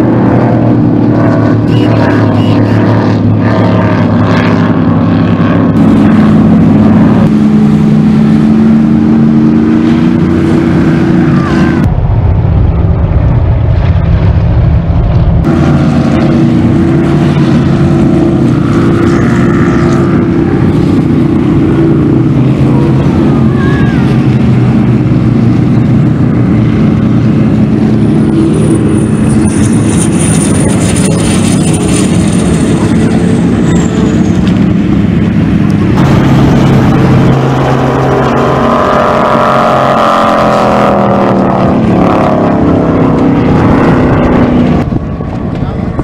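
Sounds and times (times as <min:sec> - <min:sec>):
powerboat engines running hard: 0:00.0 - 0:46.0.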